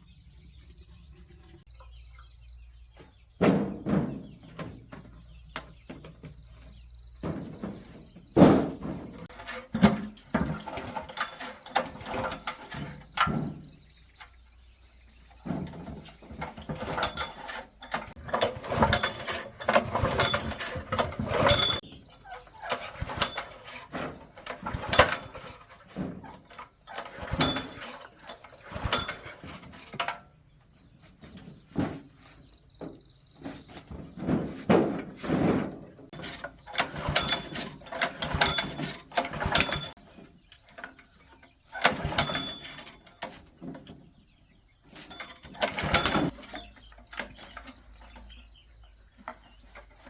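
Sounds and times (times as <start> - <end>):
insects chirring: 0.0 - 50.0
metal parts and tools clattering: 3.4 - 50.0.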